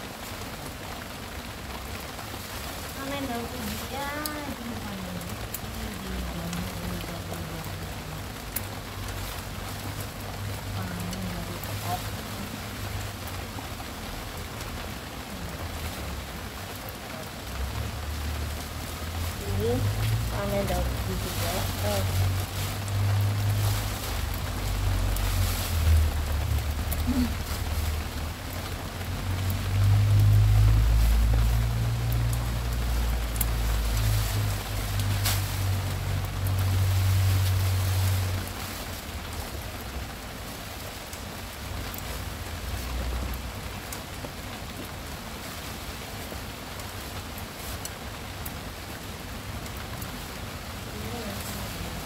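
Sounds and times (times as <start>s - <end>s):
rain hiss: 0.0s - 52.0s.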